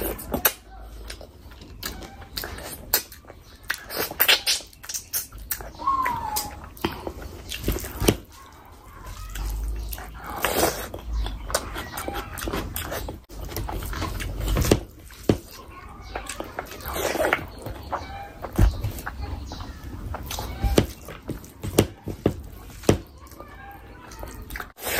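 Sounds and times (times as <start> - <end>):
chewing and lip smacking: 0.0 - 24.9.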